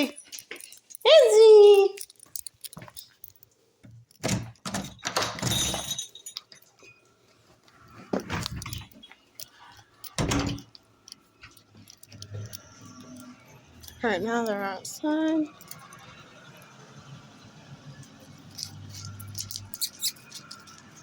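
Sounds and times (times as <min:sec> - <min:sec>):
metallic jingles: 0:00.0 - 0:07.2, 0:07.8 - 0:17.4, 0:18.1 - 0:21.0.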